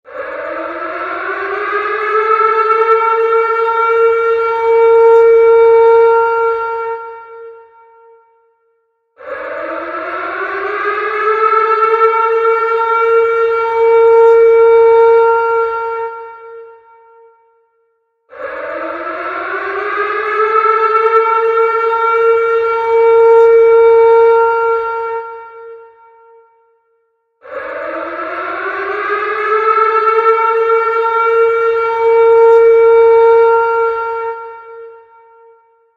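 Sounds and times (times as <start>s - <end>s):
warning siren wailing: 0.1s - 8.4s, 9.2s - 17.6s, 18.3s - 26.7s, 27.4s - 35.9s.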